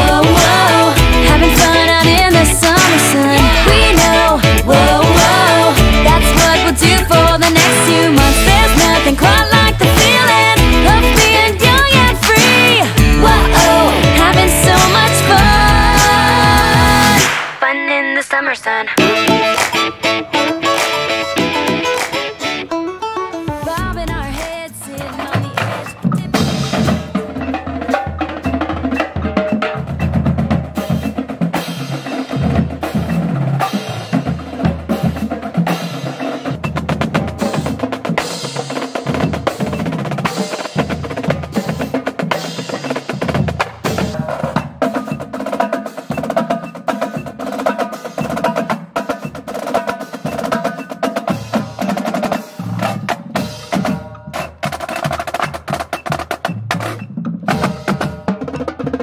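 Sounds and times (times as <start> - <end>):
marching drumline playing: 0.0 - 17.6, 23.6 - 59.0.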